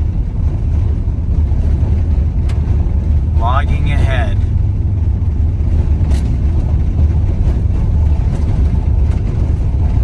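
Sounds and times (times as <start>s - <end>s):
van rumbling on dirt road: 0.0s - 10.0s.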